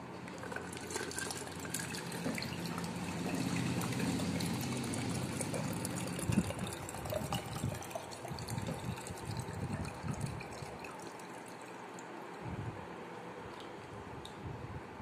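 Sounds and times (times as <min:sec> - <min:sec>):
water trickling into plastic cup: 0:00.2 - 0:12.4.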